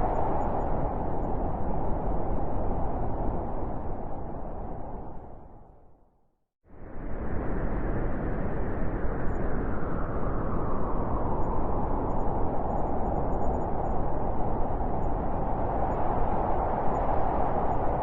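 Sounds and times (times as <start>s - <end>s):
strong wind blowing: 0.0s - 5.8s, 6.7s - 18.0s.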